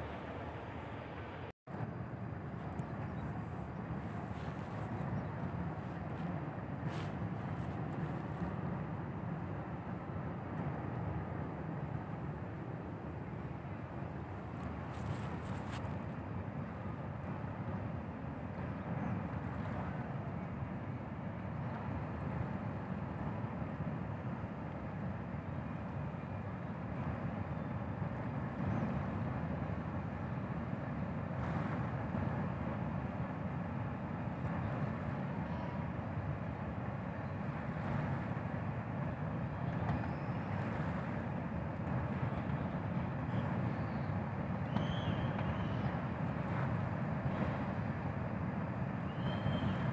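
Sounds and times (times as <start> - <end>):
ship engine rumble: 0.0 - 49.9.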